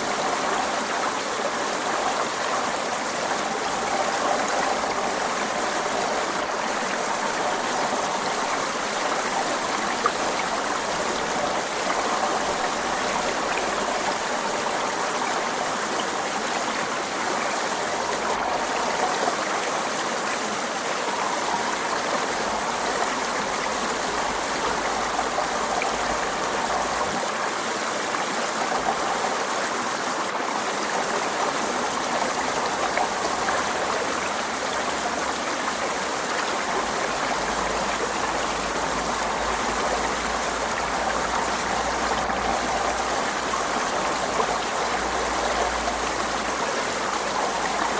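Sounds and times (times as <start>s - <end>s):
stream water flowing: 0.0s - 47.9s.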